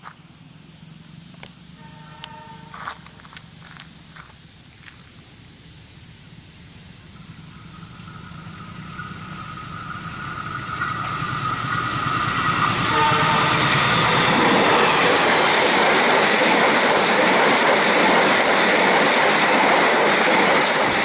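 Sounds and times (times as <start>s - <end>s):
high whine of train: 0.0s - 21.0s
train rumble: 0.0s - 21.0s.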